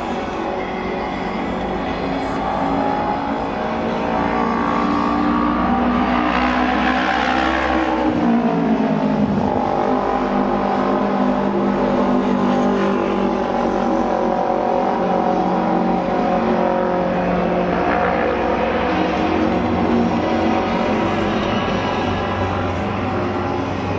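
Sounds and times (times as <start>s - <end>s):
racing motorcycle engines: 0.0s - 23.9s.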